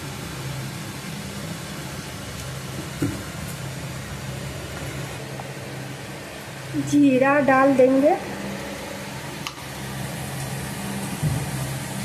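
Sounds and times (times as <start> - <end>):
low mechanical hum with hiss: 0.0 - 12.0.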